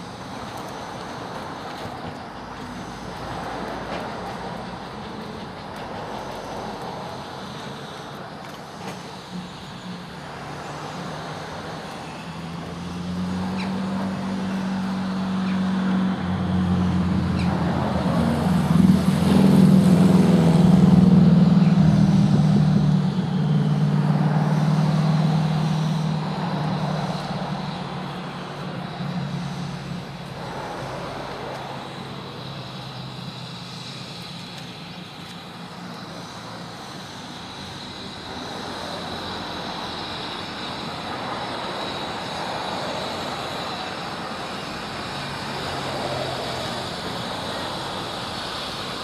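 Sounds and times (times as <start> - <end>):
steam hissing: 0.0 - 49.0
steam locomotive running: 0.0 - 49.0.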